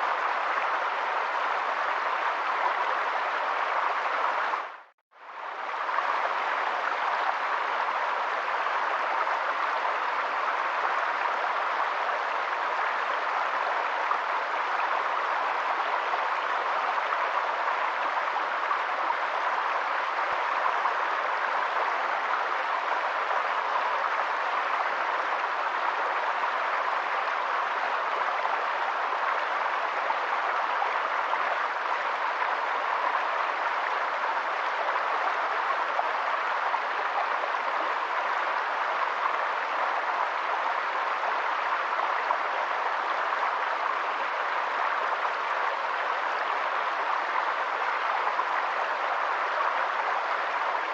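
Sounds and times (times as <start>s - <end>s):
rushing running water: 0.0s - 50.9s.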